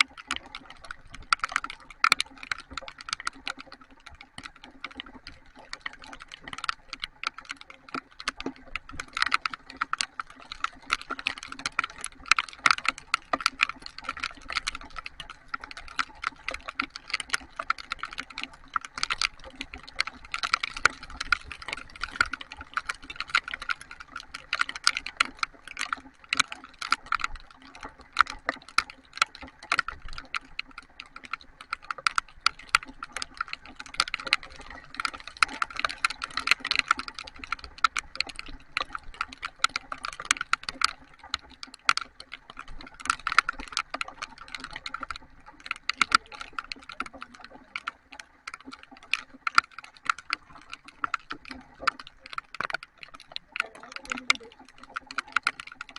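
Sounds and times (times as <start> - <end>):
heavy rain tapping on a surface: 0.0 - 55.9.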